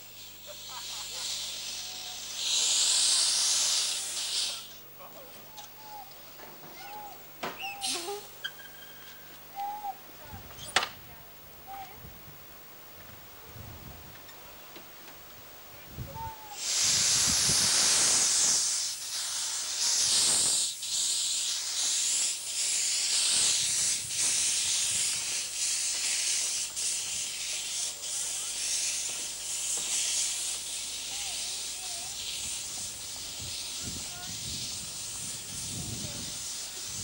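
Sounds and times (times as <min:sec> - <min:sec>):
steam locomotive hissing: 0:00.0 - 0:10.0, 0:16.2 - 0:37.0.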